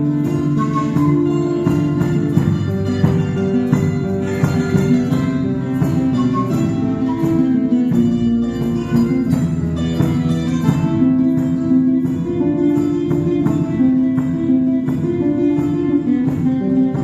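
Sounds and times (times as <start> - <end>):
acoustic guitars playing: 0.0 - 17.0
steady percussion beat: 0.0 - 17.0.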